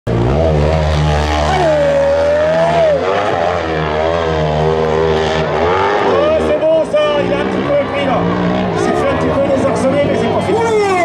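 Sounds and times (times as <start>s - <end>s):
dirt bike engine revving hard: 0.1s - 11.0s.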